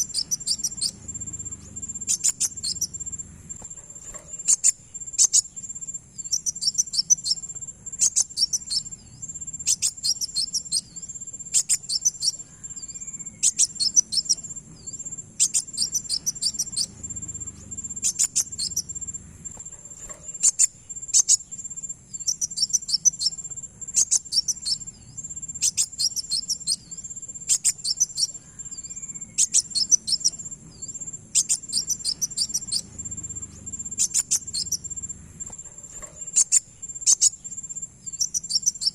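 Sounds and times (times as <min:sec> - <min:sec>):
high cricket-like whine: 0:00.0 - 0:38.9
sunbird chirping: 0:00.0 - 0:38.9.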